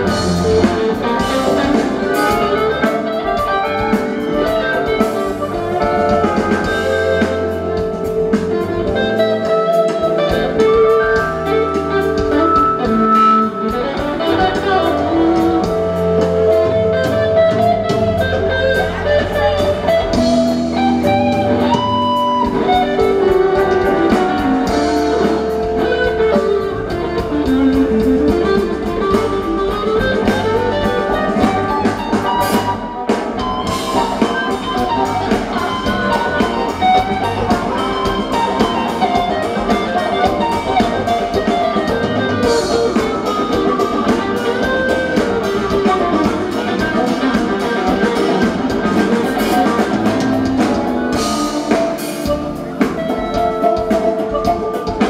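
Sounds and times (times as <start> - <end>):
live band playing: 0.0 - 55.0.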